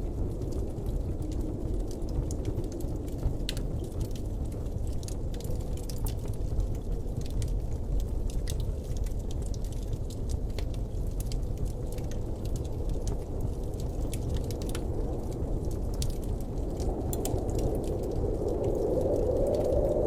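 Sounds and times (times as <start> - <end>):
low rushing wind: 0.0 - 7.3, 10.0 - 20.0
faint crackles and ticks: 0.0 - 20.0.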